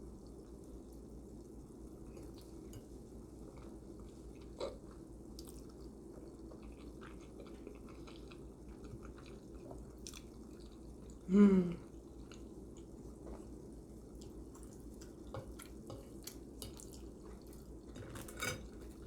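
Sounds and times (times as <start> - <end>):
quiet chewing: 2.0 - 19.0.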